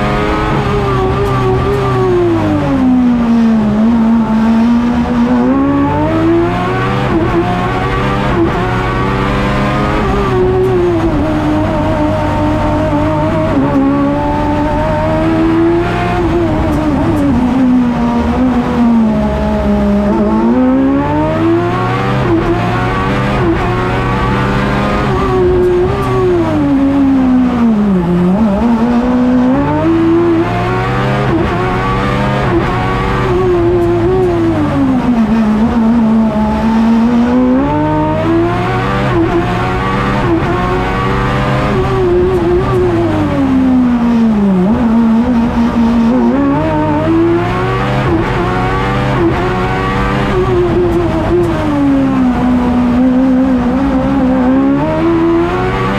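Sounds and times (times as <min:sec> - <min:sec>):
race car engine revving: 0:00.0 - 0:55.9.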